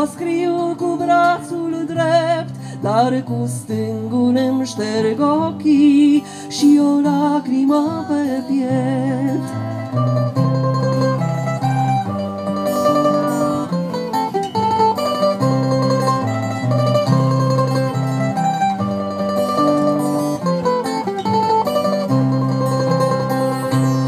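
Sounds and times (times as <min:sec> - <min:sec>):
acoustic guitars playing: 0:00.0 - 0:24.0
mandolin playing: 0:00.0 - 0:24.0.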